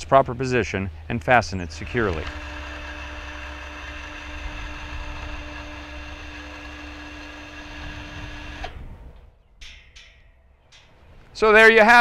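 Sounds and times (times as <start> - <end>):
gate opener motor hum: 0.7 - 11.4.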